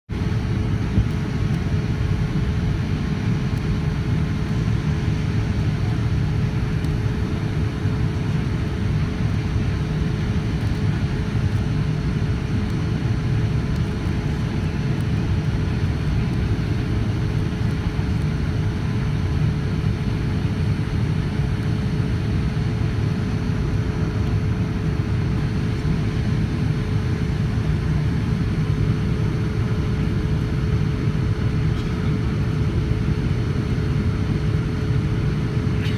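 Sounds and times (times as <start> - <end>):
airplane engine rumble: 0.1 - 35.9
mid-pitched engine hum: 0.2 - 35.9.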